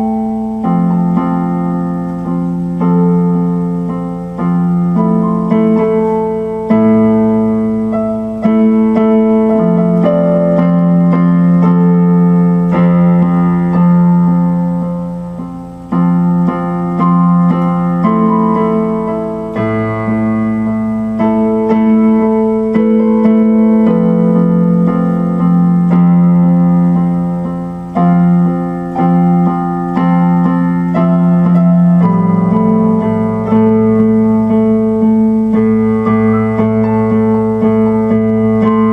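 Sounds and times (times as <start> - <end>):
electric piano background music: 0.0 - 38.9.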